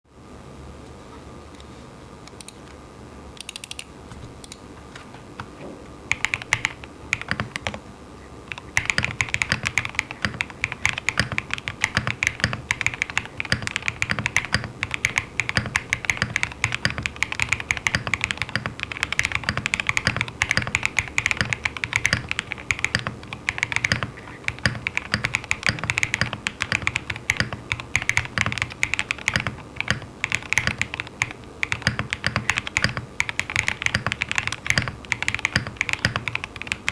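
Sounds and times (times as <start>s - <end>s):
faint electrical buzz: 0.1s - 36.9s
mechanical keyboard typing: 3.4s - 4.6s, 6.1s - 7.9s, 8.5s - 36.9s.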